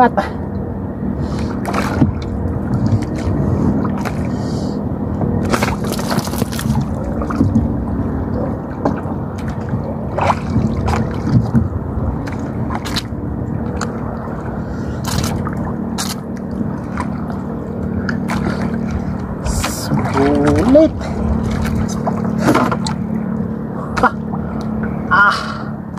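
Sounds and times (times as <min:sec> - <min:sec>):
sea water sloshing and splashing: 0:00.3 - 0:25.9
short splashes and knocks: 0:01.3 - 0:04.5, 0:05.1 - 0:25.1.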